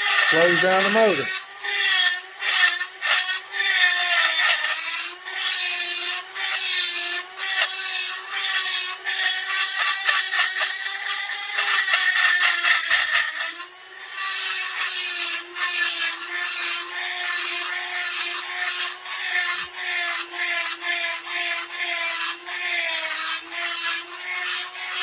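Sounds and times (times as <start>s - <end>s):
rotary grinder grinding metal: 0.0s - 25.0s.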